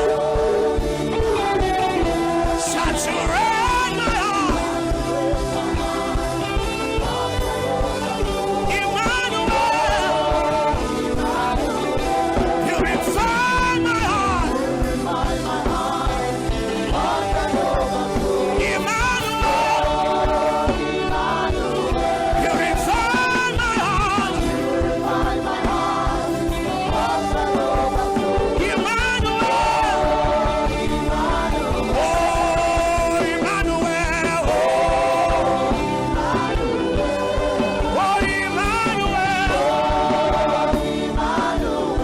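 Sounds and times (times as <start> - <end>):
person singing gospel: 0.0 - 42.0.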